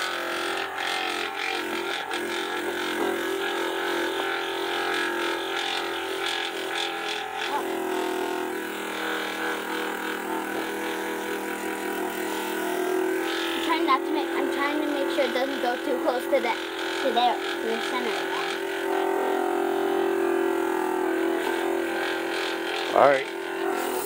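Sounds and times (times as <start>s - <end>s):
grinding machine motor hum: 0.0s - 24.0s
stone grinding on spinning disc: 0.0s - 24.0s.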